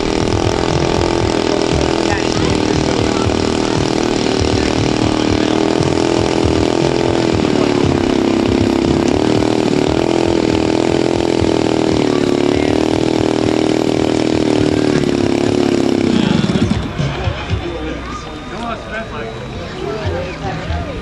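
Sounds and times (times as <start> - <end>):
model plane engine running: 0.0 - 17.0.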